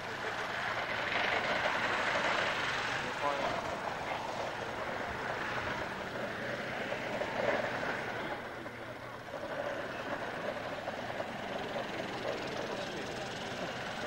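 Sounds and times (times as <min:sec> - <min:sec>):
airplane engine running: 0:00.0 - 0:14.0.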